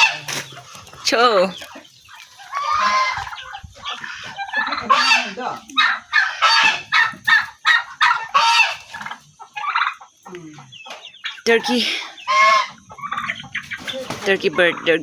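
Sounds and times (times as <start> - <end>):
turkeys calling: 0.0 - 15.0.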